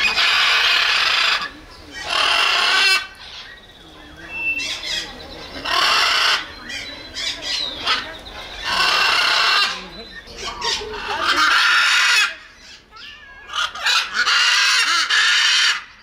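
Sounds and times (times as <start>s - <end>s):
macaw squawking: 0.0s - 3.6s, 4.2s - 16.0s.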